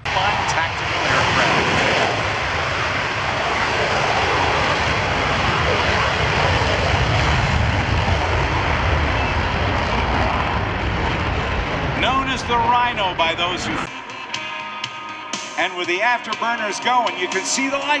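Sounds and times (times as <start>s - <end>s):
fighter jet roar: 0.0s - 16.6s.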